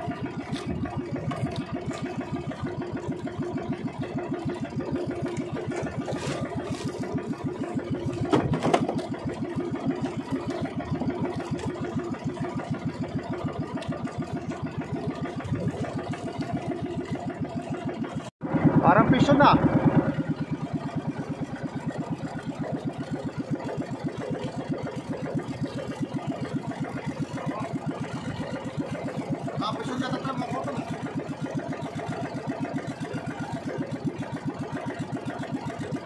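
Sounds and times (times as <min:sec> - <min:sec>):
small boat engine puttering: 0:00.0 - 0:36.0.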